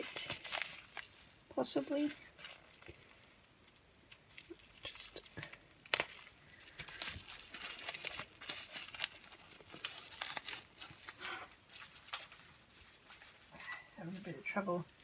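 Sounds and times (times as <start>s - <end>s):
packaging wrap crinkling and tearing: 0.0s - 13.9s.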